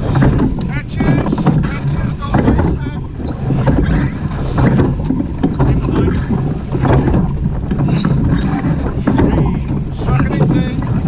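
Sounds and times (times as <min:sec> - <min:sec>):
oars splashing water: 0:00.0 - 0:11.0
wind on microphone: 0:00.0 - 0:11.0.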